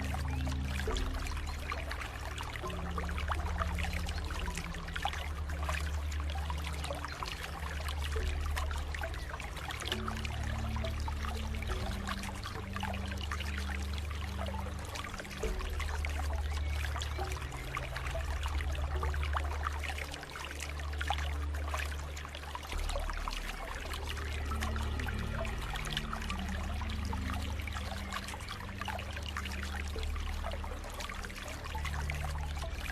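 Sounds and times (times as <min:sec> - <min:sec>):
water trickling in stream: 0:00.0 - 0:32.9.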